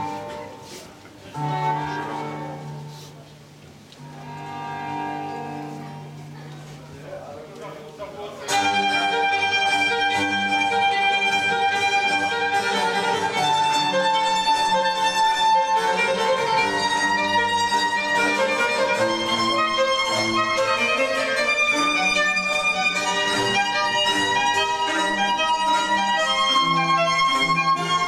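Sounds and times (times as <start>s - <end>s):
instrumental music with bowed strings: 0.0s - 28.0s.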